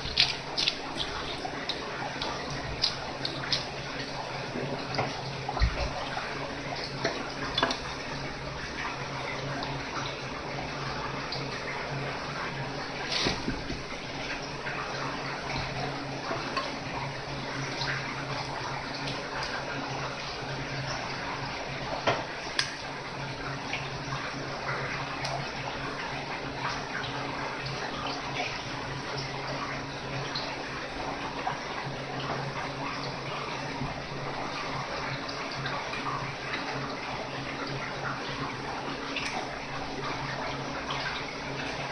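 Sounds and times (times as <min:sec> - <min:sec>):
water running from a tap: 0:00.0 - 0:41.9.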